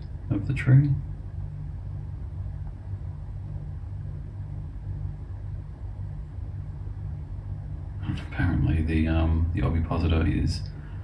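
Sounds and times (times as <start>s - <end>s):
low rumble hum: 0.0s - 11.0s.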